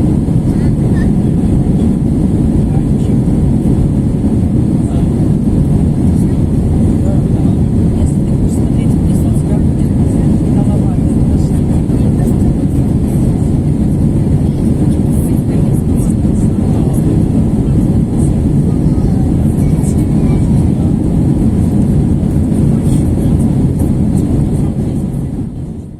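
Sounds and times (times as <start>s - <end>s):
airplane cabin roar: 0.0s - 25.9s.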